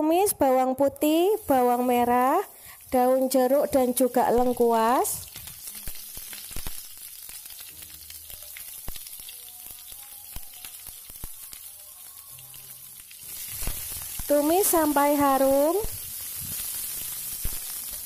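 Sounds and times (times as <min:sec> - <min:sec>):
food sizzling in hot oil: 0:00.4 - 0:18.0
oil crackling and popping: 0:00.8 - 0:18.0.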